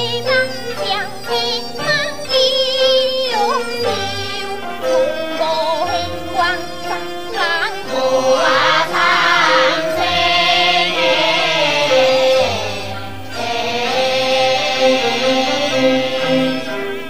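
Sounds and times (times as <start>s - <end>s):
traditional opera instrumental ensemble: 0.0s - 17.0s
woman singing opera aria: 0.0s - 17.0s.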